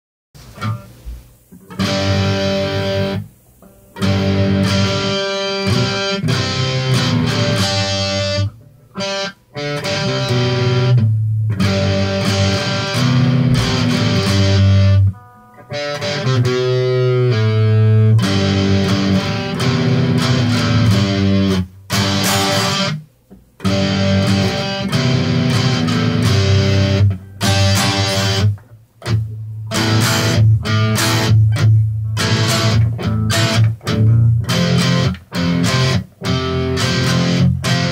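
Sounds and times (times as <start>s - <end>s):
electric baritone guitar chords: 0.4s - 37.9s.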